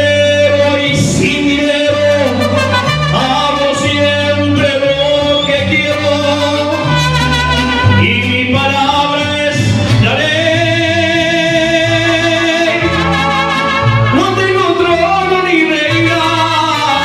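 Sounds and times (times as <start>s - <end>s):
mariachi band playing: 0.0s - 17.0s.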